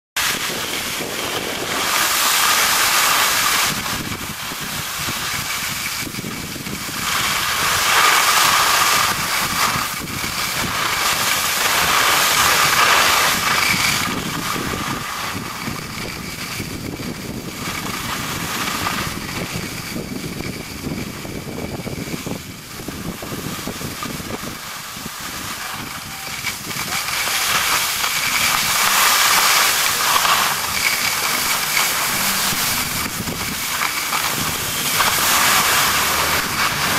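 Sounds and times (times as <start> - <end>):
skis scraping over packed snow: 0.2 - 36.9
wind on microphone: 0.2 - 36.9.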